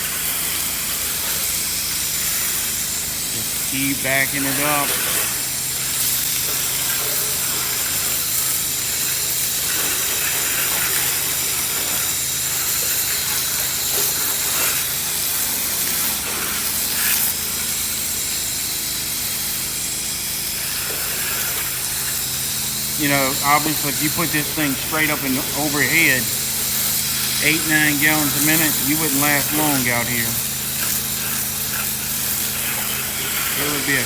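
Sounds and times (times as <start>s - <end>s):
pressure washer water jet hissing: 0.0s - 34.0s.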